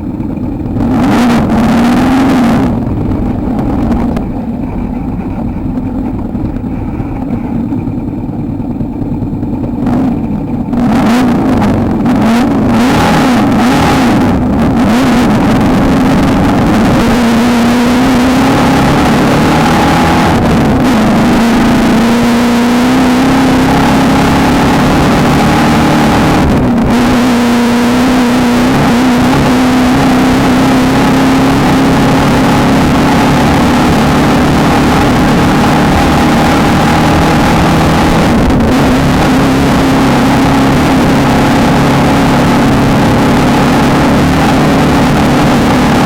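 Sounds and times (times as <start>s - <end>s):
constant rushing noise: 0.0s - 46.0s
race car engine under load: 0.0s - 46.0s.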